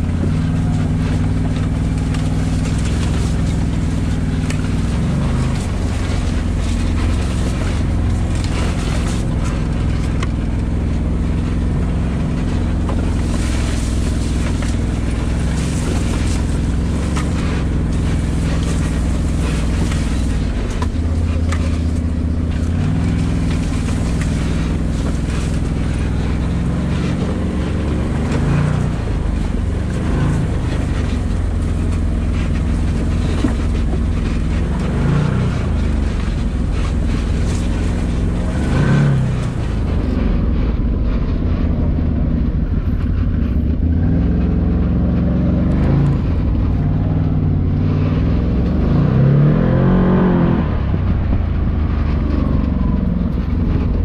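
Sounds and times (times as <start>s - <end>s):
engine revving under load: 0.0s - 54.0s.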